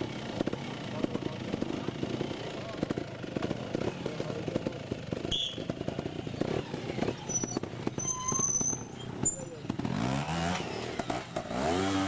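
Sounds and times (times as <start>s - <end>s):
motorcycle engine popping: 0.0s - 11.6s.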